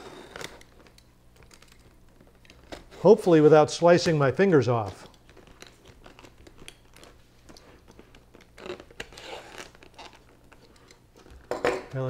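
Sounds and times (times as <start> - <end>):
plastic crinkling and crackling: 0.2 - 12.0.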